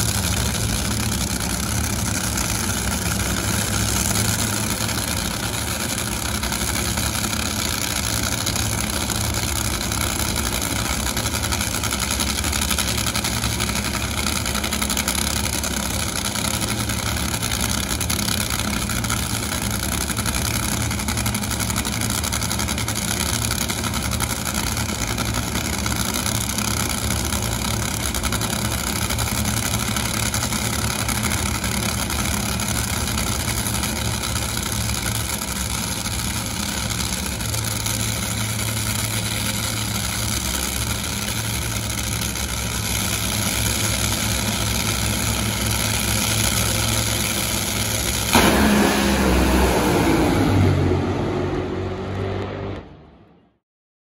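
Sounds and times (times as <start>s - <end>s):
racing engine idling: 0.0s - 51.6s.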